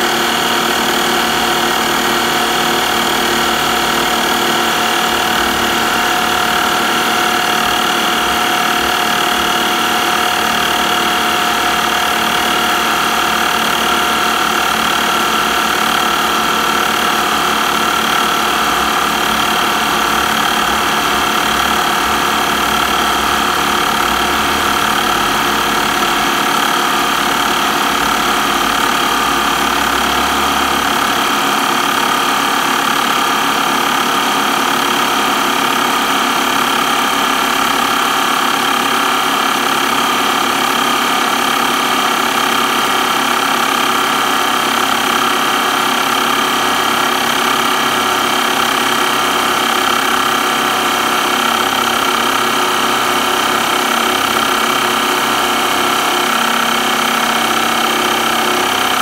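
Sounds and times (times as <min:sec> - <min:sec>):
electric air pump running: 0:00.0 - 0:59.0.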